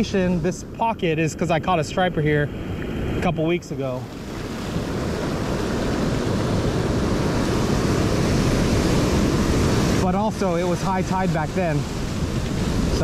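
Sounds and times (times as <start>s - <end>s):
ocean surf washing over sand: 0.0s - 13.0s.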